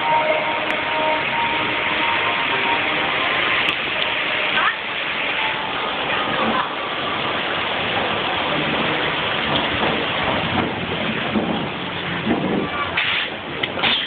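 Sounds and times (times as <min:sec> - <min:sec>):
falling water hissing: 0:00.0 - 0:14.0.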